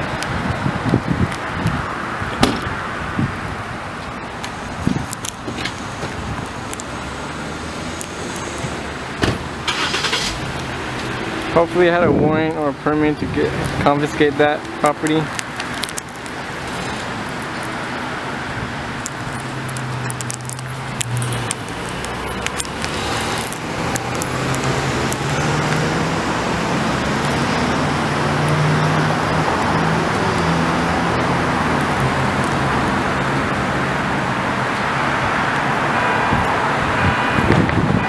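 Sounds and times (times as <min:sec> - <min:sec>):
cars passing on road: 0:00.0 - 0:38.0.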